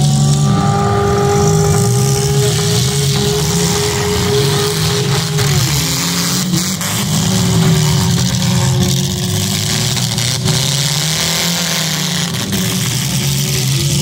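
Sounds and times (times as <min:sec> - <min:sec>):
car engines running loud: 0:00.0 - 0:14.0
engine and exhaust rush: 0:00.0 - 0:14.0.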